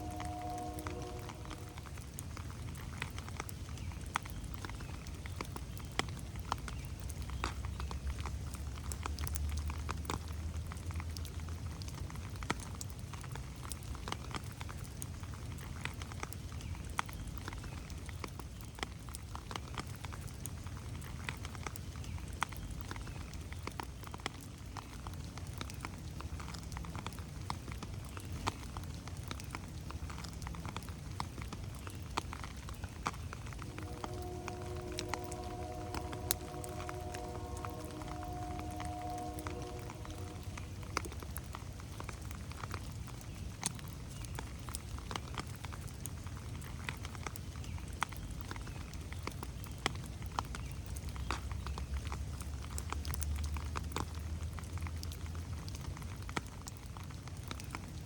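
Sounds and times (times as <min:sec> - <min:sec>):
rain on foliage: 0:00.0 - 0:58.0.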